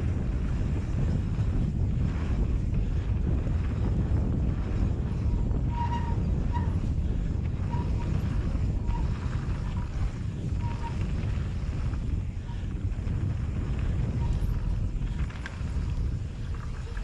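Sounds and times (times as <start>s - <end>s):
bike tyres rolling on dirt: 0.0s - 17.0s
wind buffeting camera: 0.0s - 17.0s.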